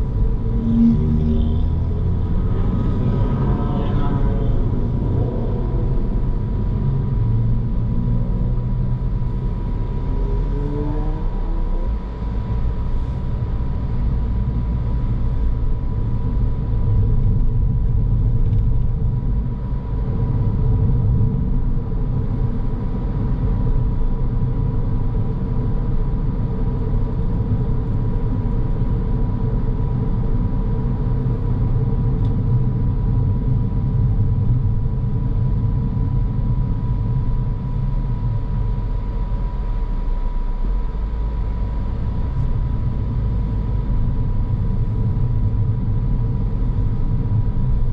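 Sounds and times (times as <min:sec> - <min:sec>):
car road and engine rumble: 0:00.0 - 0:47.9
faint steady whine: 0:00.0 - 0:47.9.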